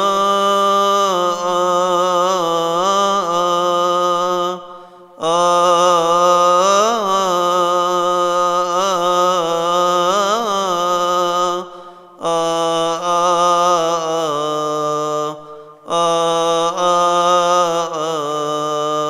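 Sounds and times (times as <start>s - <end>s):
man chanting a hymn: 0.0s - 19.0s.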